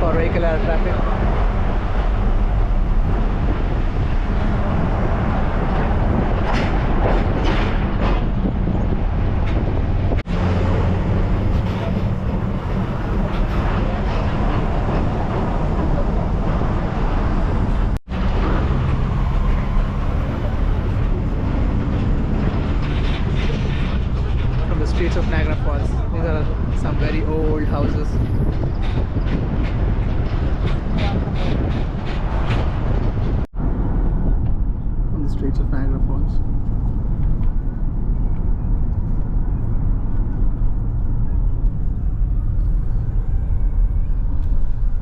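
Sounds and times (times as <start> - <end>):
vehicle road noise: 0.0 - 45.0.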